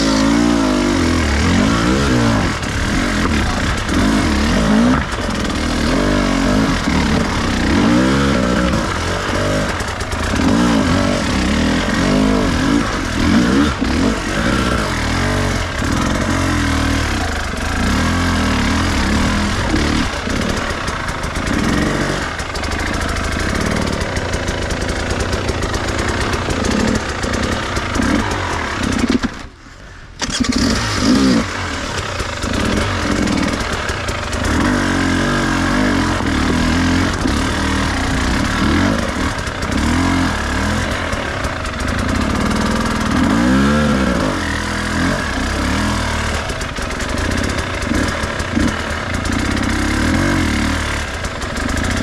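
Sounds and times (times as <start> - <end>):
dirt bike engine revving: 0.0 - 29.5, 30.2 - 52.0.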